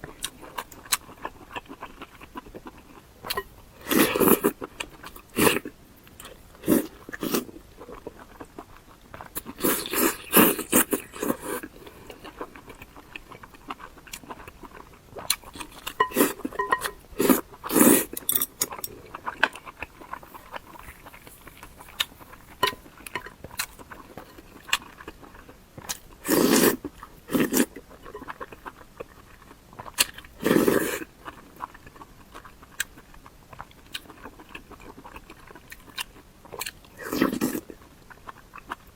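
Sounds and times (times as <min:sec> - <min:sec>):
close chewing and bites: 0:00.0 - 0:38.9.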